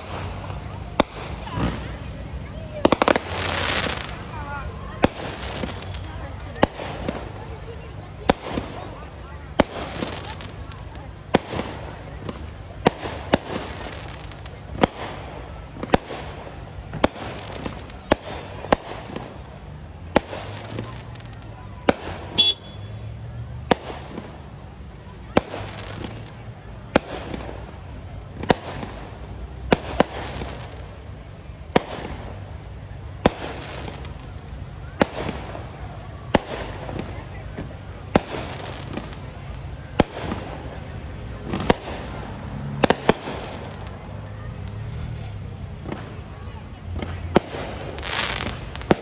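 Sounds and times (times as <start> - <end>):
fireworks bursting with sharp bangs: 0.0 - 49.0.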